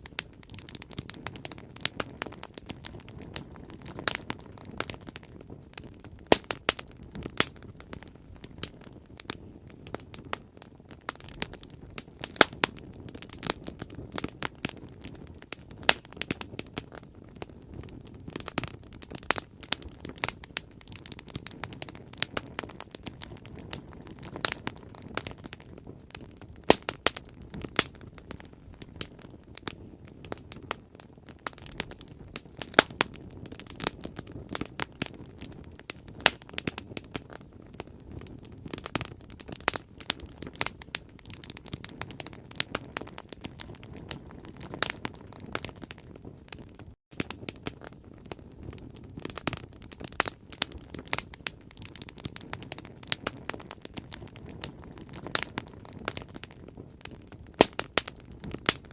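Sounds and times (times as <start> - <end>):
burning wood popping: 0.0 - 58.9
low rush of flame: 0.0 - 58.9.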